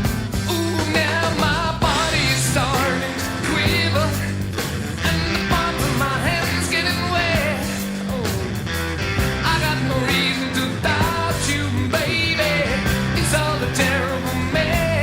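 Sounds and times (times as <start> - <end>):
rock music with lead vocal: 0.0 - 15.0.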